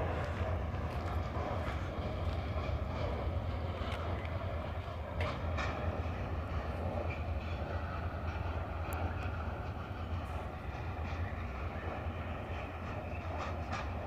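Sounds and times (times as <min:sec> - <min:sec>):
distant freight train drone: 0:00.0 - 0:14.0.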